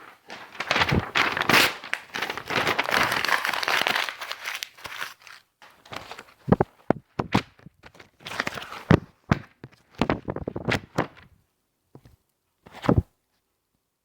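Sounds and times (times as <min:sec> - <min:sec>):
paper rustling and crinkling: 0:00.0 - 0:11.4, 0:12.0 - 0:13.1.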